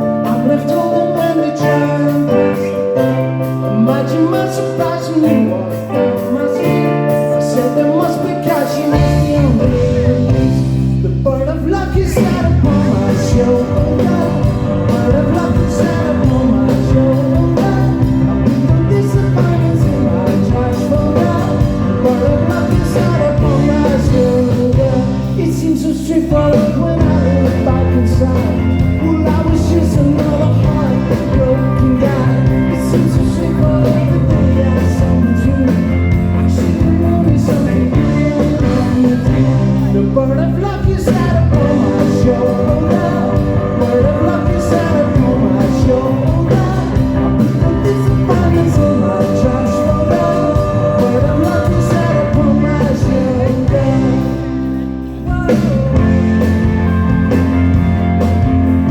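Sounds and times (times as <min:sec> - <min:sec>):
bass guitar: 0:00.0 - 0:58.9
electric guitars: 0:00.0 - 0:58.9
person singing: 0:00.0 - 0:58.9
drums playing steady beat: 0:05.2 - 0:11.2, 0:11.8 - 0:58.9.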